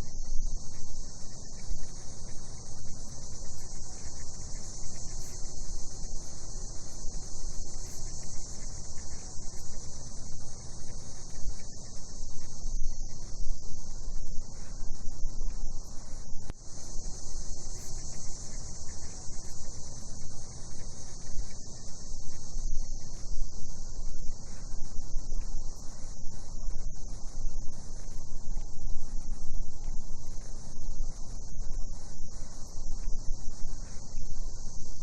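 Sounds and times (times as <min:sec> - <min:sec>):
night insects chorus: 0:00.0 - 0:35.0.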